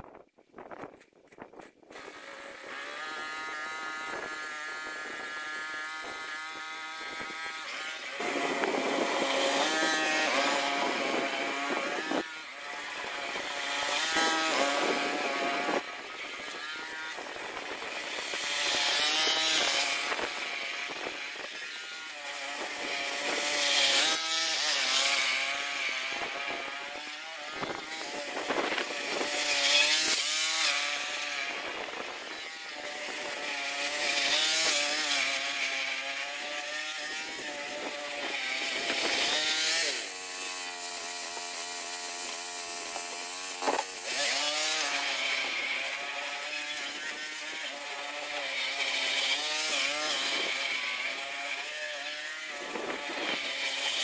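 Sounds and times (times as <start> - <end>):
lawn mower engine cutting grass: 0.0 - 54.0.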